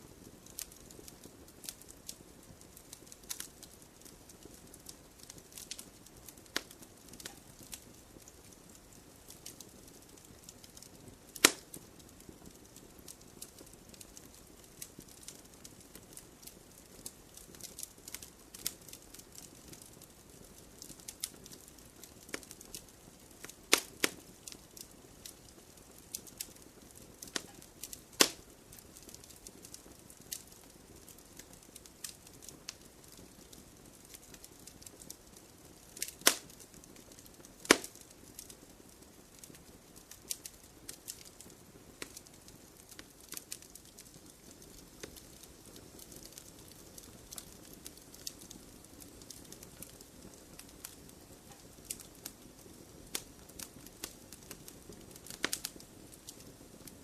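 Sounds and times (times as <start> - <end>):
campfire flames hissing: 0.0 - 57.0
fire popping and snapping: 0.0 - 57.0.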